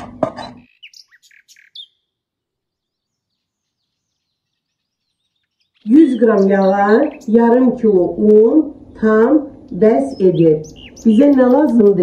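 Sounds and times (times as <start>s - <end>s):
small birds chirping: 0.3s - 12.0s.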